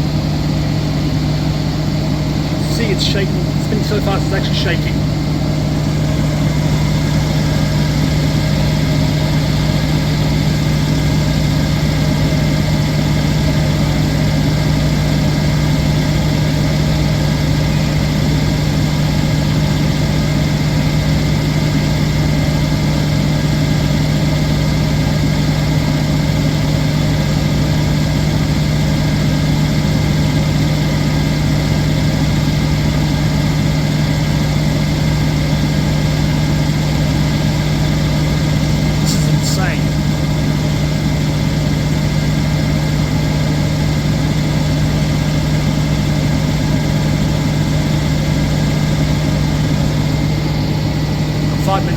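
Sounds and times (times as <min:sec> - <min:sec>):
washing machine spinning: 0:05.0 - 0:51.6.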